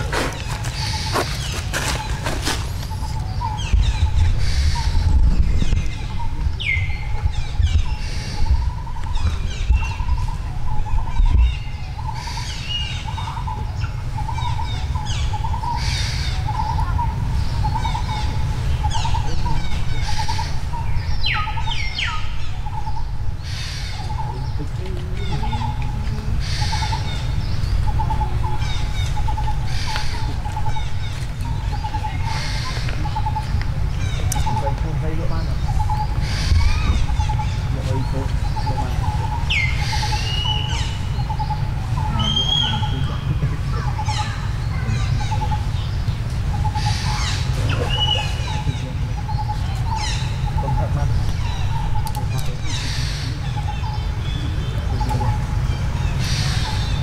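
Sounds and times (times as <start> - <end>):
birds calling: 0.0 - 57.0
steady low rumble: 0.0 - 57.0.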